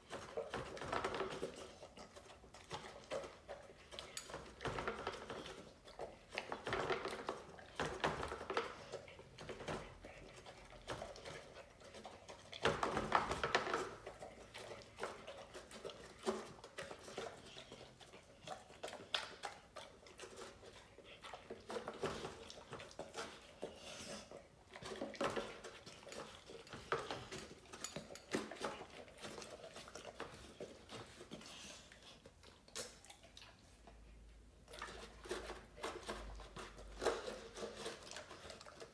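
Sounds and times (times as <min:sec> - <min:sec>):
dog eating from a bowl: 0:00.0 - 0:38.9.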